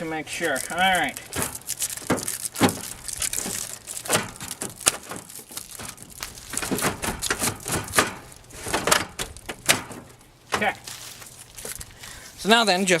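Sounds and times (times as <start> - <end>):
crinkling: 0.0 - 12.6.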